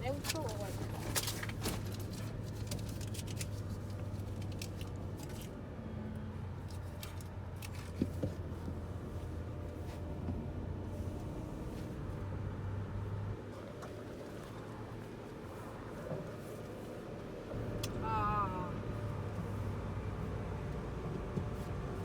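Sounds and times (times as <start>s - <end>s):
car interior hum: 0.0s - 22.0s.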